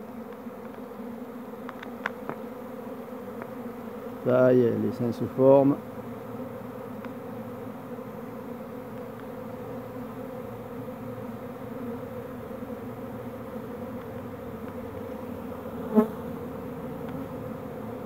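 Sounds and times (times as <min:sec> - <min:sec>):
bee swarm buzzing: 0:00.0 - 0:18.0.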